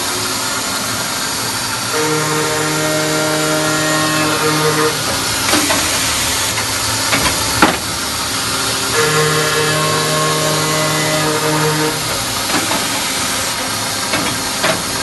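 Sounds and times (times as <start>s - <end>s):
cold saw machine hum: 0.0s - 15.0s.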